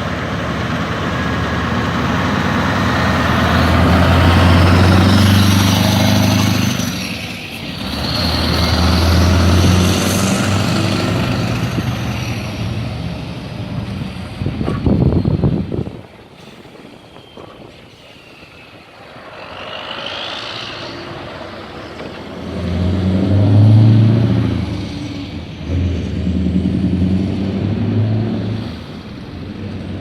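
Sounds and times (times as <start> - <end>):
diesel truck engine drone: 0.0 - 30.0.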